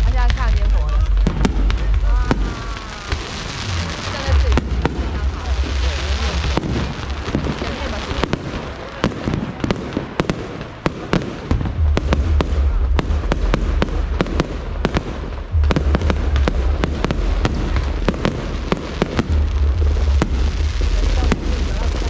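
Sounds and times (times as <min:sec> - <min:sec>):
fireworks cracking and popping: 0:00.0 - 0:22.0
heavy low rumble: 0:00.0 - 0:22.0.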